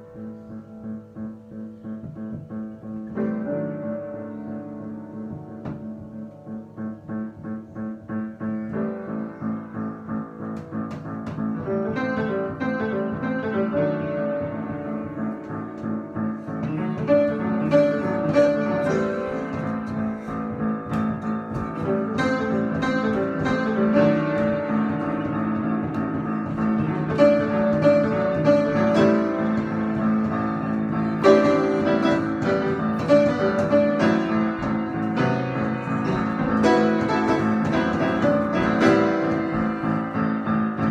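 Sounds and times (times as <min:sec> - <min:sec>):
improvised piano music: 0:00.0 - 0:40.9.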